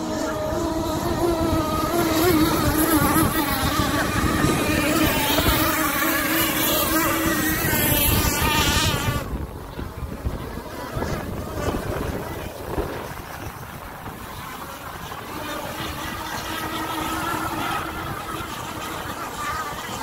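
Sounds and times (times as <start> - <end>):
model boat engines whining: 0.0 - 20.0.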